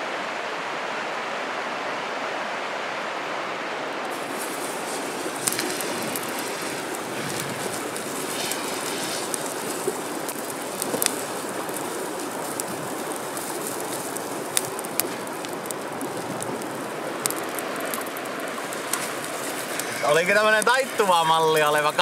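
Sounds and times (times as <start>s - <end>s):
river rushing over rapids: 0.0s - 22.0s
batter frying in pan: 4.1s - 22.0s.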